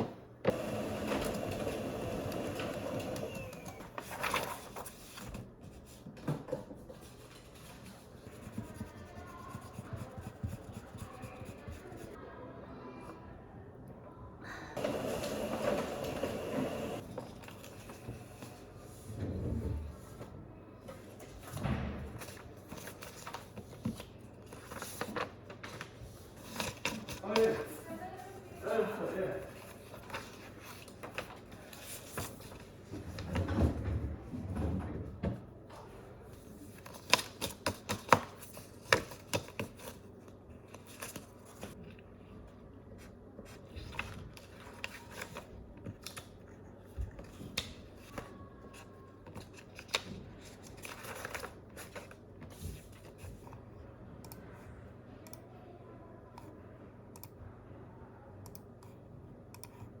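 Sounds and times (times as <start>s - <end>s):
room hum: 0.0s - 60.0s.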